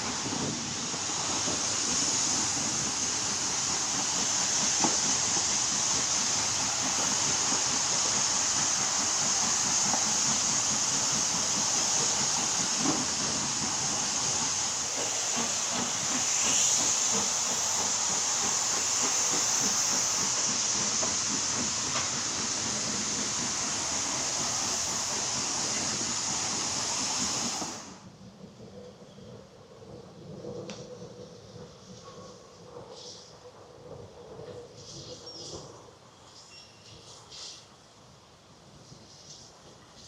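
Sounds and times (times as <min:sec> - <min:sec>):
steady hissing noise: 0:00.0 - 0:28.3, 0:29.0 - 0:40.0.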